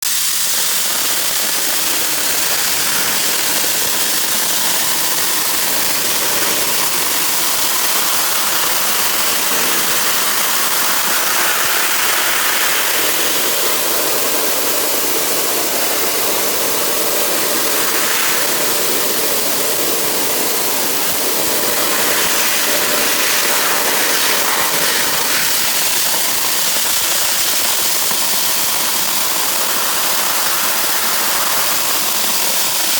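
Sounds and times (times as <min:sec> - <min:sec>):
dry ice blaster hissing: 0:00.0 - 0:32.9.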